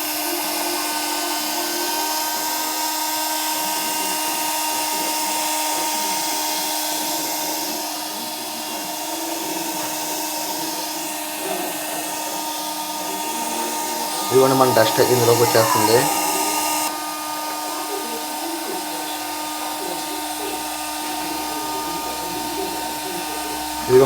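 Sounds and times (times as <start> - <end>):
small motor whine and air rush: 0.0 - 24.0.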